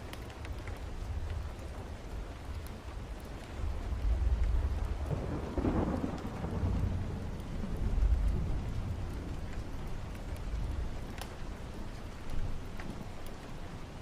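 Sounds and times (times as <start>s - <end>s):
steady rain: 0.0s - 14.0s
thunder rumbling: 0.9s - 14.0s.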